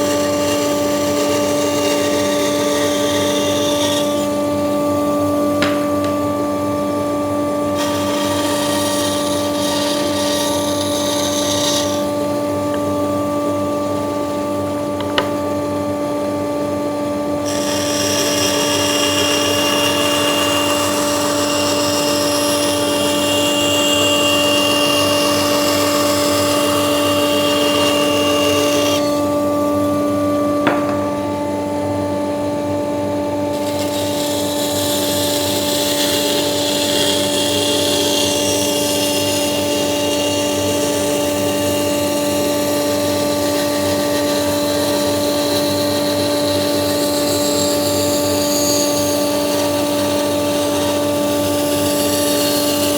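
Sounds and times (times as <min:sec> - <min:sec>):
saw blade cutting wood: 0:00.0 - 0:13.9, 0:15.0 - 0:15.6, 0:17.4 - 0:31.5, 0:33.4 - 0:52.9
band saw motor hum: 0:00.0 - 0:52.9.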